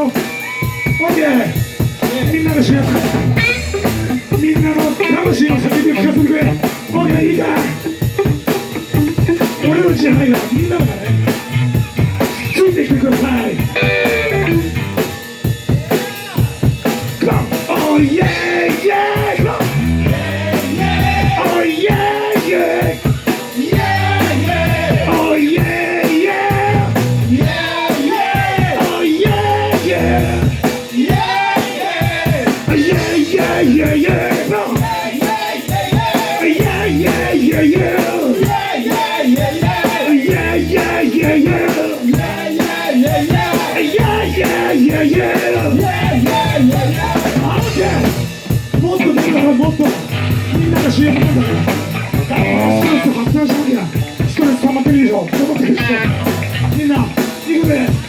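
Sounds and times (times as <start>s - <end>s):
drum kit: 0.0s - 58.0s
guitar: 0.0s - 58.0s
rock band playing live: 0.0s - 58.0s.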